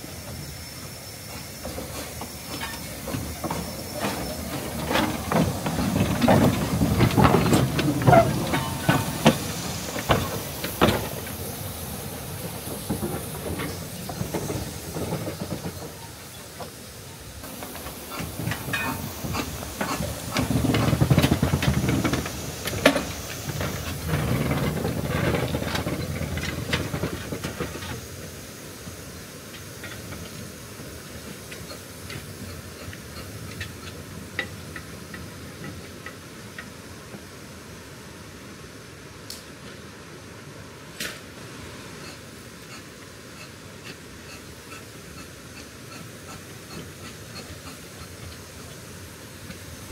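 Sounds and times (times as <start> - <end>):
steam locomotive chuffing: 0.0 - 37.2, 41.9 - 49.9
steam hissing from locomotive: 0.0 - 49.9.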